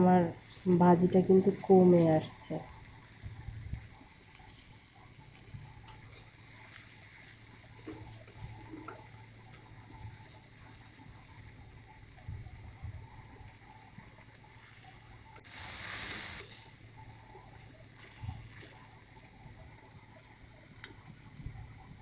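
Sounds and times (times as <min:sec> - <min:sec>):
food sizzling: 0:00.0 - 0:21.4.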